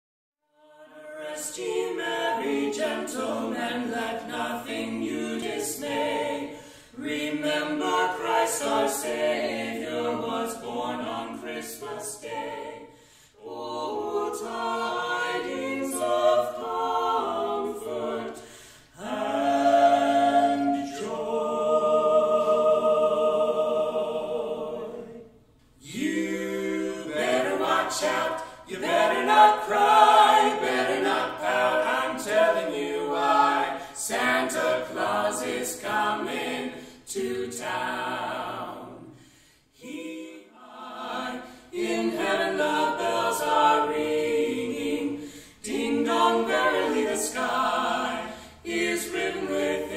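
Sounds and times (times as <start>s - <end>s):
vocal quartet singing a cappella: 0.4s - 49.9s.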